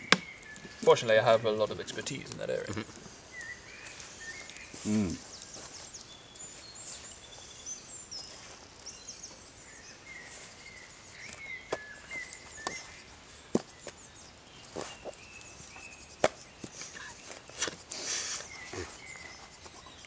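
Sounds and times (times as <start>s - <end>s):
fire popping: 0.0s - 19.9s
birds chirping faintly: 0.0s - 20.0s
campfire crackling: 0.0s - 20.0s.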